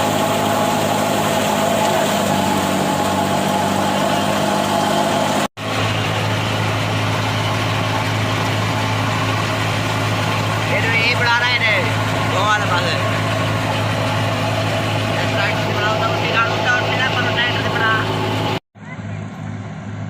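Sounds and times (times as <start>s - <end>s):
heavy machinery engine idling: 0.0s - 20.0s.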